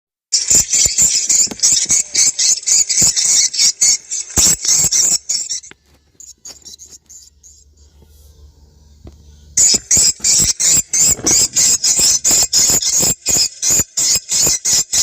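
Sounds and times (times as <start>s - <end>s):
rapid high twittering chirps: 0.3s - 7.8s, 9.5s - 15.0s.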